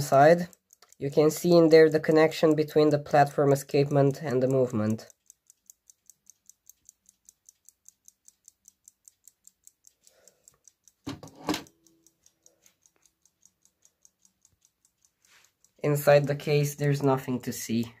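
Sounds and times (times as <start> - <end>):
clock ticking: 0.0 - 18.0.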